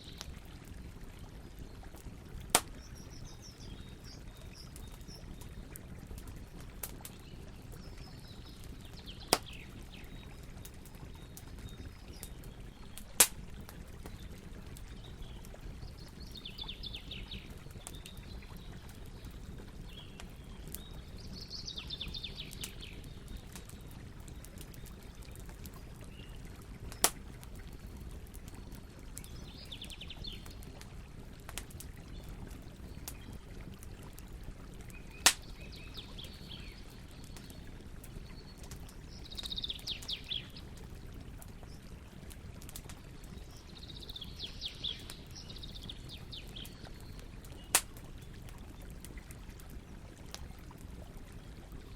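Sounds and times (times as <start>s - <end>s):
campfire rumbling and crackling: 0.0s - 51.9s.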